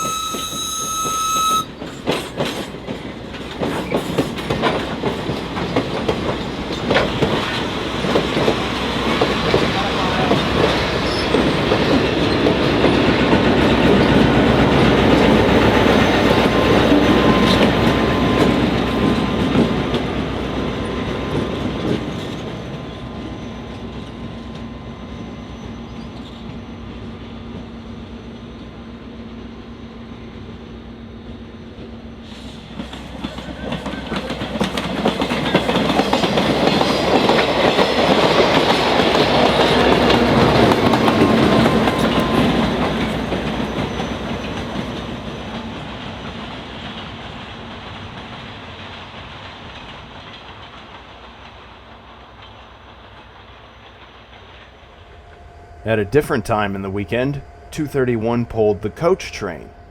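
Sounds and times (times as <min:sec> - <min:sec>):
train wheels clacking on rails: 0:00.0 - 0:29.4, 0:31.7 - 0:55.1.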